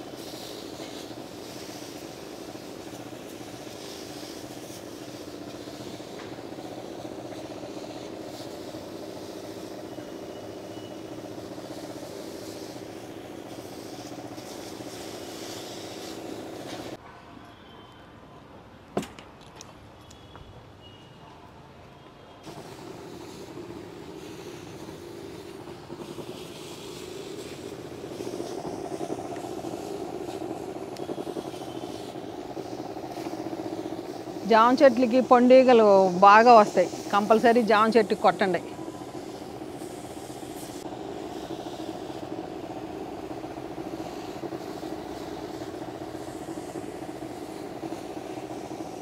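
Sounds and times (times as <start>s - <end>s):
hiss of spray: 0.0s - 17.0s, 22.4s - 49.0s
motorized sprayer running: 0.0s - 17.0s, 22.4s - 49.0s.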